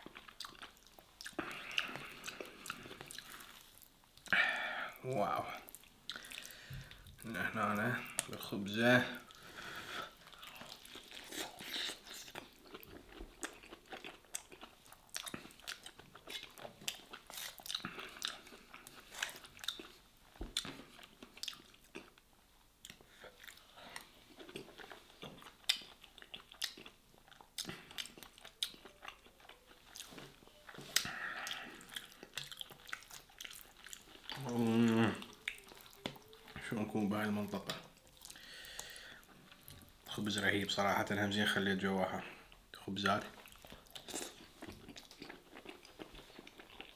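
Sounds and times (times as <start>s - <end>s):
person chewing and crunching food: 0.0s - 40.9s, 42.2s - 46.9s.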